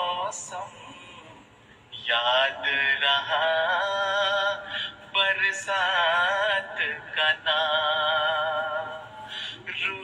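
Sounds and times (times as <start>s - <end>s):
person singing devotional song: 0.0s - 10.0s.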